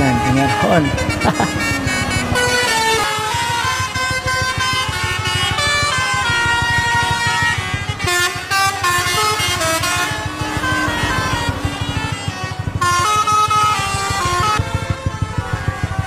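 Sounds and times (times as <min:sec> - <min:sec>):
lorry engines running: 0:00.0 - 0:16.0
multi-tone air horns playing tunes: 0:00.0 - 0:16.0.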